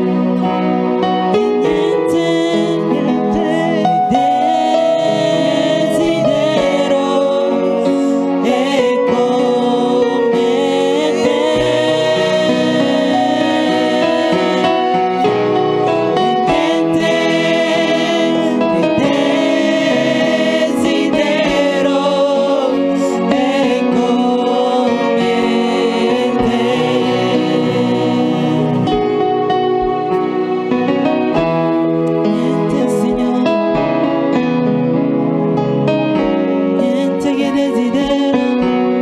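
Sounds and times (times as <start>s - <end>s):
gospel singing: 0.0s - 35.4s, 36.4s - 39.0s
sustained instrumental backing: 0.0s - 39.0s.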